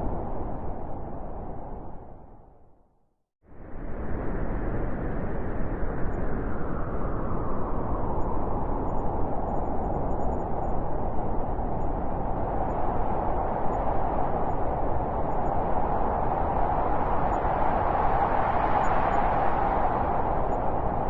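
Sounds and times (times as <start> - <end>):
howling blizzard wind: 0.0 - 2.8, 3.5 - 21.0.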